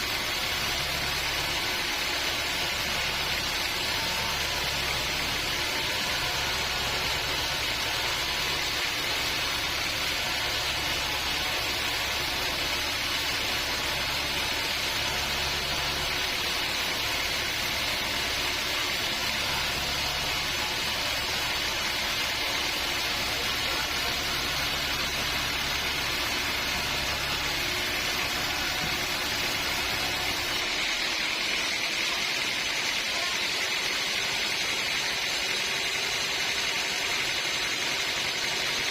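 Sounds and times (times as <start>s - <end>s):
band sawmill hissing: 0.0s - 38.9s
motor humming: 0.0s - 38.9s.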